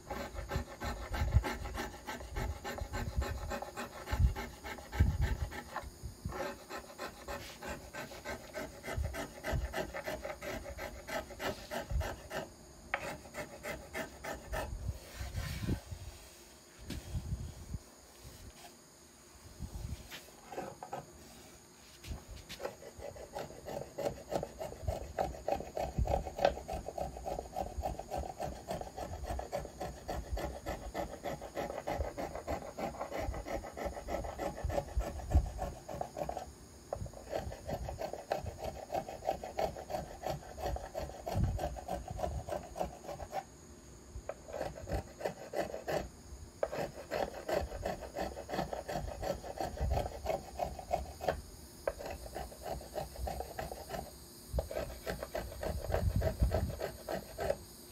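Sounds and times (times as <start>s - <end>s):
hand tool shaving wood: 0.0s - 15.8s, 22.4s - 43.4s, 44.3s - 57.6s.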